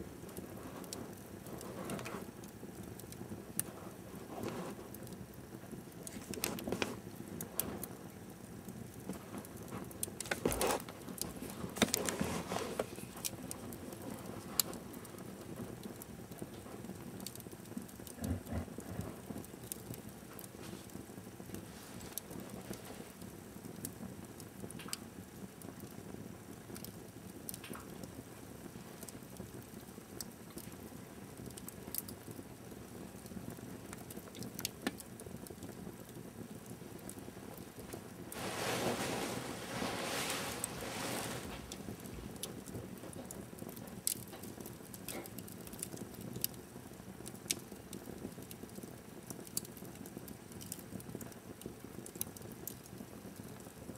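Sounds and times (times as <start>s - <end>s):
fireplace fire crackling: 0.0s - 53.9s
wood fire popping: 0.0s - 53.9s.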